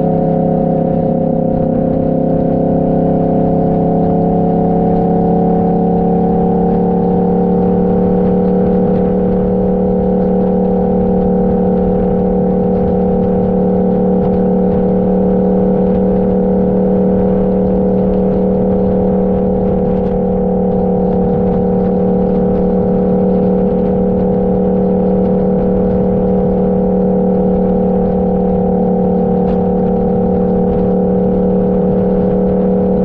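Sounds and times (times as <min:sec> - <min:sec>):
low wind rumble: 0:00.0 - 0:33.0
motorcycle engine cruising: 0:00.0 - 0:33.0.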